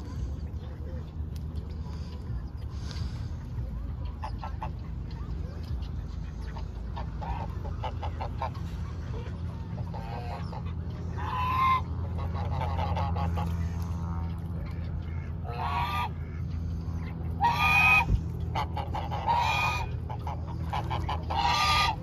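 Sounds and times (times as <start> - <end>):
steady low rumble: 0.0 - 22.0
geese honking: 1.8 - 22.0.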